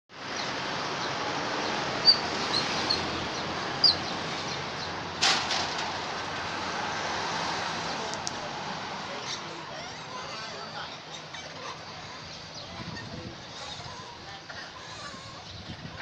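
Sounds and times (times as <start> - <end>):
street background noise: 0.1 - 16.0.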